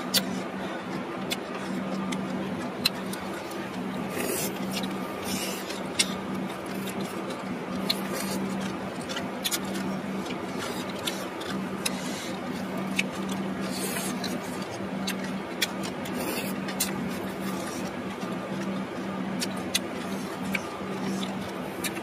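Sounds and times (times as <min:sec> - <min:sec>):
chewing: 0:00.0 - 0:22.0
steady low hum: 0:00.0 - 0:22.0.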